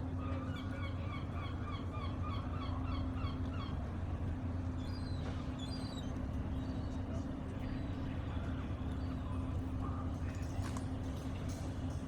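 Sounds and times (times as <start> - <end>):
low rumble of engines and machinery: 0.0 - 12.0.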